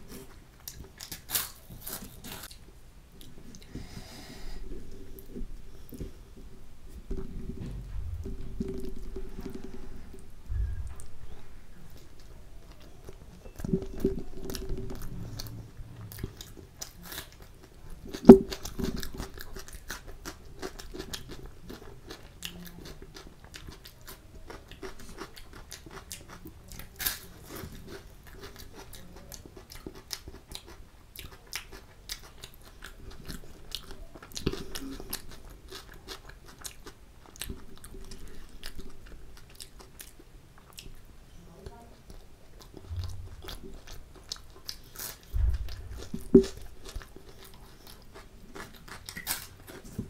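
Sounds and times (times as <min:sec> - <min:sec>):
wet chewing and crunching: 0:00.0 - 0:04.0, 0:04.7 - 0:50.0.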